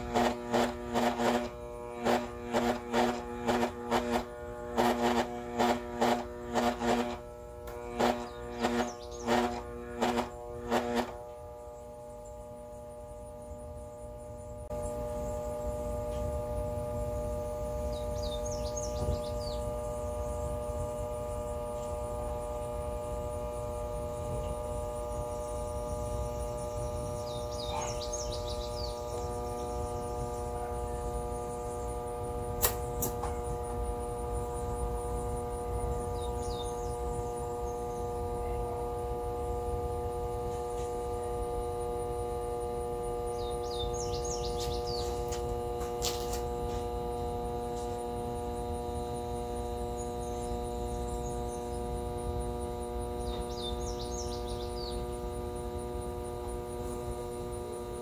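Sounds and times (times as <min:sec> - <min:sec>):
blender motor droning hum: 0:00.0 - 0:58.0.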